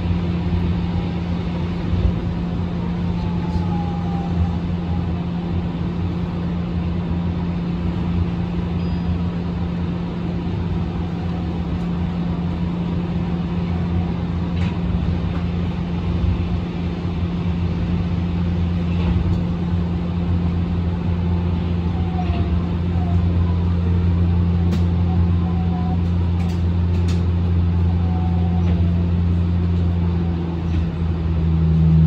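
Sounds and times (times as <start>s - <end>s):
monorail car running hum: 0.0s - 32.0s.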